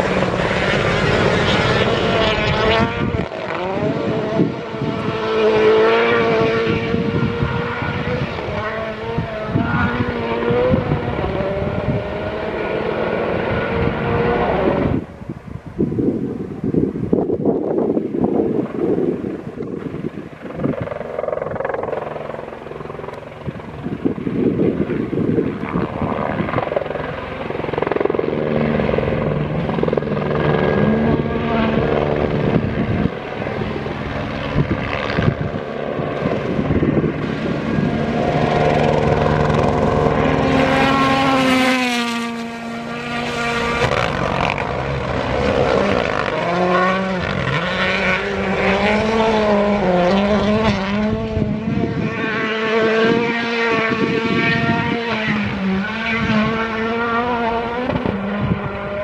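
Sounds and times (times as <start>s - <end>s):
rally car engine revving: 0.0s - 15.1s, 23.5s - 59.0s.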